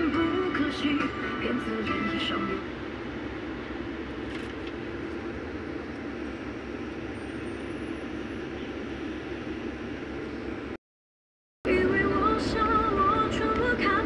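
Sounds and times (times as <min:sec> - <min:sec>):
road noise inside moving car: 0:00.0 - 0:10.8, 0:11.7 - 0:14.0.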